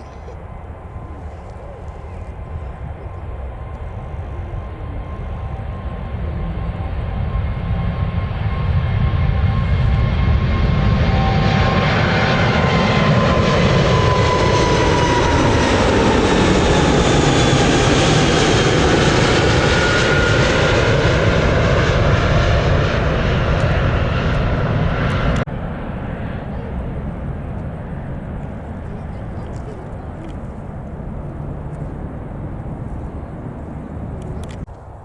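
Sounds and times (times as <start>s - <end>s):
airliner engines passing: 0.0s - 35.0s.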